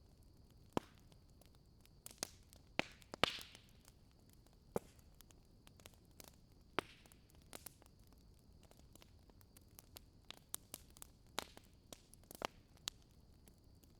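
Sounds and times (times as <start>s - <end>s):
wood fire crackling: 0.0s - 13.9s.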